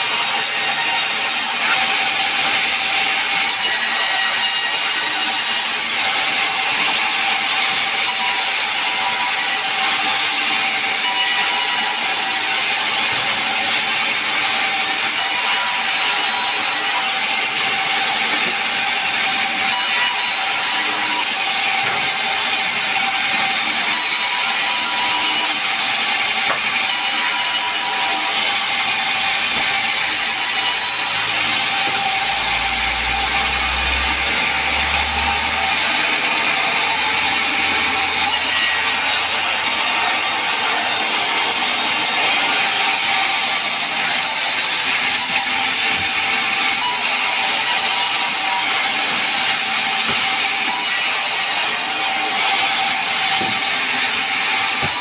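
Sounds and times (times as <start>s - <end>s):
sawmill saw cutting logs: 0.0s - 55.0s.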